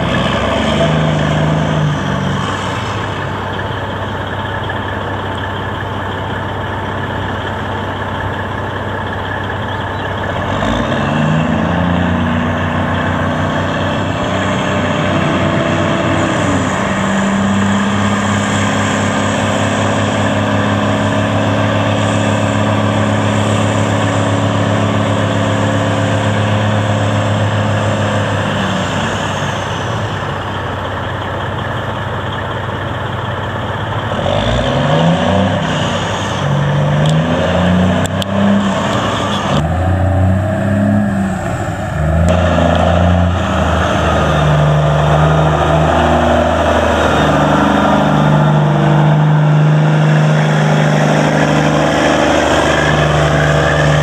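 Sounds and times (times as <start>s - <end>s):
diesel truck engine revving: 0.0s - 54.0s.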